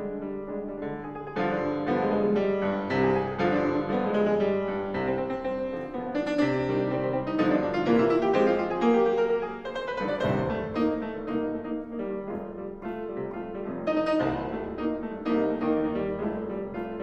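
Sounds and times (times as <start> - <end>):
grand piano playing: 0.0 - 17.0.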